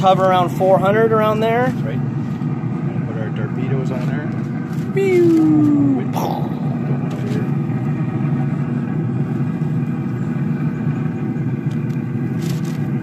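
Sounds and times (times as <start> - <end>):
grill fan motor hum: 0.0 - 13.0.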